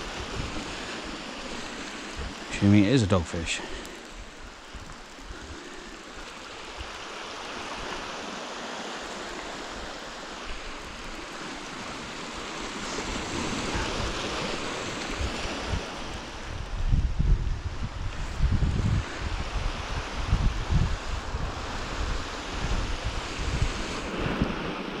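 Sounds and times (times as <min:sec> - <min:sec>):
wind buffeting microphone: 0:00.0 - 0:08.4, 0:09.0 - 0:25.0
waves washing over shingle: 0:00.0 - 0:17.0, 0:17.6 - 0:25.0.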